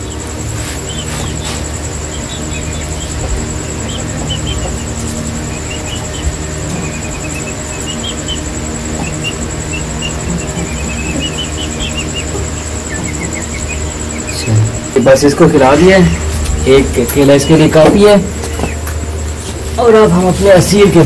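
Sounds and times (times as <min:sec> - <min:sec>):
continuous high-pitched trill: 0:00.0 - 0:21.0
steady low hum: 0:00.0 - 0:21.0.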